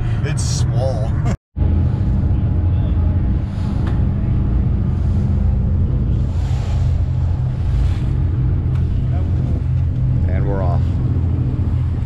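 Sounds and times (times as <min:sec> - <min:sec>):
ship engine low drone: 0:00.0 - 0:12.0
wind on microphone: 0:01.2 - 0:12.0.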